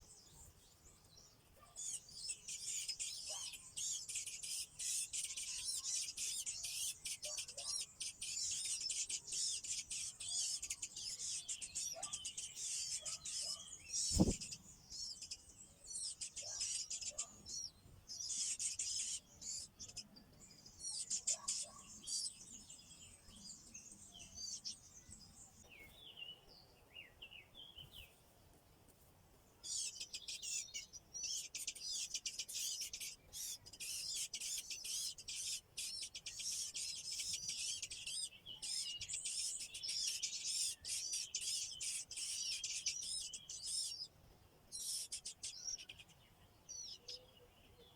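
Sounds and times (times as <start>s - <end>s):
nestlings chirping: 0.0s - 26.0s, 29.6s - 47.9s.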